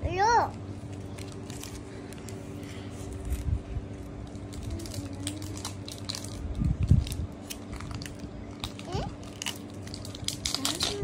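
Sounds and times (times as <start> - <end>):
paper wrapper crinkling: 0.8 - 11.0.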